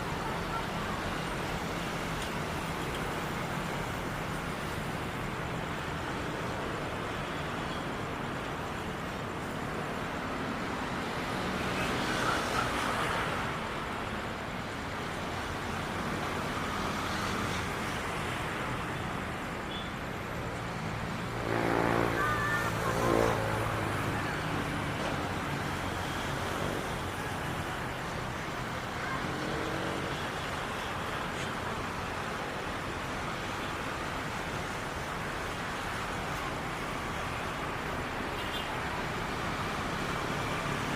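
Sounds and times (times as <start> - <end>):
traffic noise: 0.0 - 40.9.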